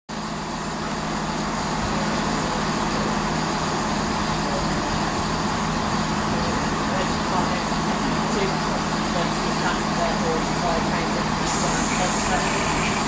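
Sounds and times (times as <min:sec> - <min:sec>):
train diesel engines humming: 0:00.1 - 0:13.0.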